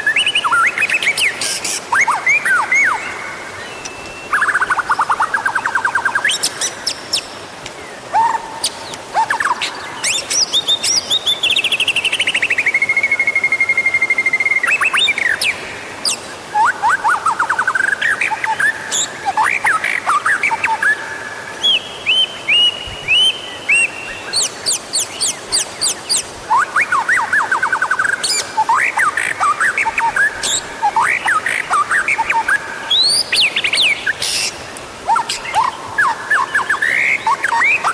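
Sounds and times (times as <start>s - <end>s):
bird singing trills and whistles: 0.0s - 7.0s, 8.1s - 37.9s.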